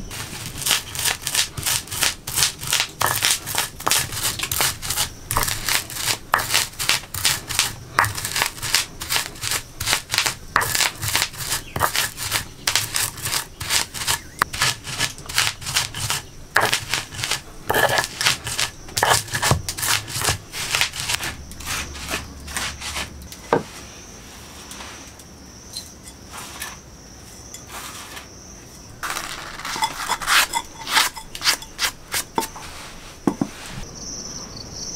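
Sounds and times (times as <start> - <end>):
stone pestle grinding on stone: 0.0 - 23.8, 27.4 - 33.8.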